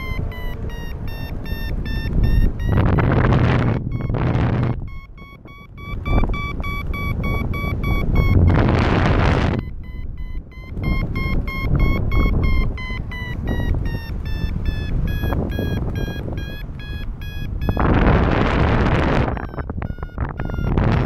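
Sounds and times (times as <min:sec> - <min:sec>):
variometer beeping: 0:00.0 - 0:21.0
wind rumbling on microphone: 0:00.0 - 0:21.0.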